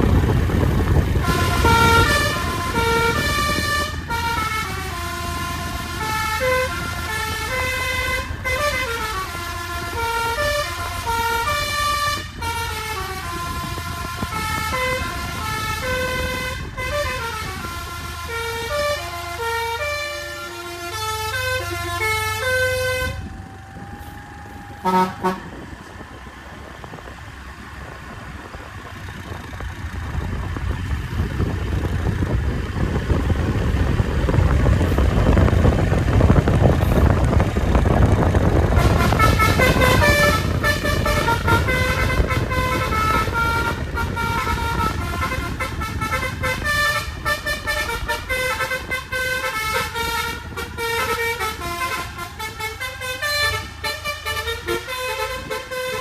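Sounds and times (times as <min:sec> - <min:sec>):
bus horn playing a tune: 0:00.0 - 0:29.4, 0:30.4 - 0:56.0
bus engine and road noise: 0:00.0 - 0:56.0.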